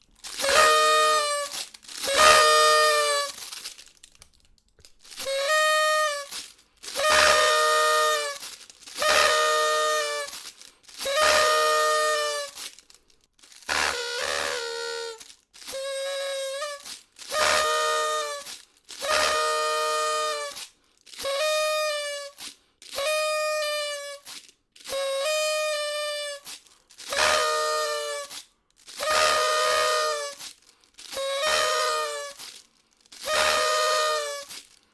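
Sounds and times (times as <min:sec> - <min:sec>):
party horn toots: 0:00.2 - 0:04.0, 0:05.0 - 0:12.9, 0:13.5 - 0:34.8.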